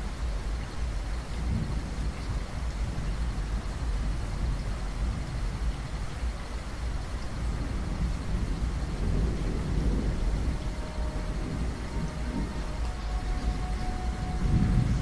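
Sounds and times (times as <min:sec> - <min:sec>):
heavy rain falling: 0:00.0 - 0:15.0
rolling thunder rumble: 0:00.0 - 0:15.0.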